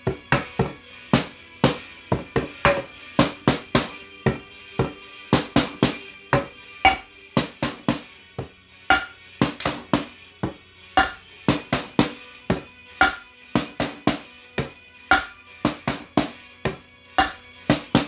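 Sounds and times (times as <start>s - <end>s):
backing track music: 0.0s - 18.0s
stick and ladle striking bowls: 0.1s - 8.0s, 8.9s - 18.0s.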